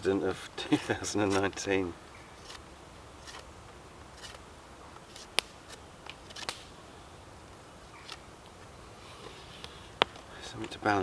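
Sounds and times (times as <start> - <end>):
low steady background noise: 0.0 - 11.0.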